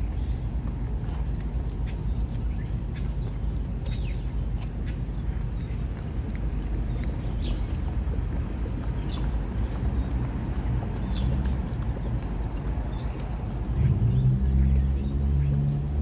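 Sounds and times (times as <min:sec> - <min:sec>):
cat chewing wet food: 0:00.0 - 0:16.0
steady low rumble: 0:00.0 - 0:16.0.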